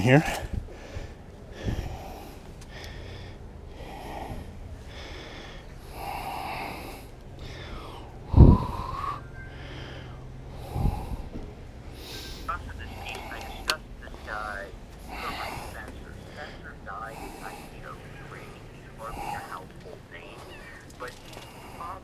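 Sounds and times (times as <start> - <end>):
man breathing heavily: 0.0 - 22.0.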